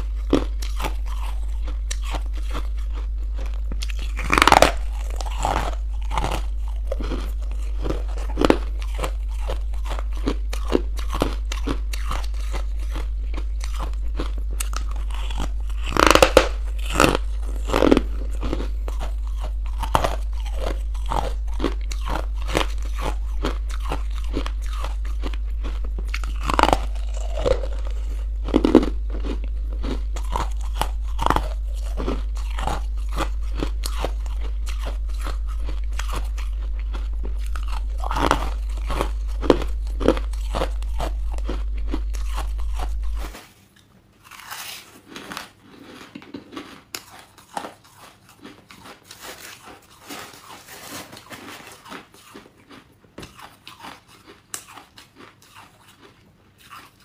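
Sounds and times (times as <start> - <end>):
crunchy food chewing: 0.0 - 57.0
low steady hum: 0.0 - 57.0.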